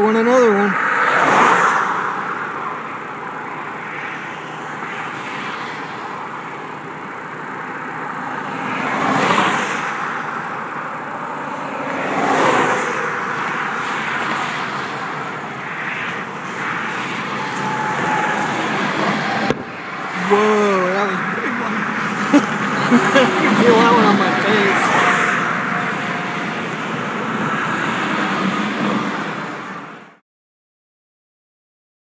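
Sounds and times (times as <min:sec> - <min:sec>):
highway traffic rushing: 0:00.0 - 0:30.2
vehicles passing close: 0:00.0 - 0:30.2.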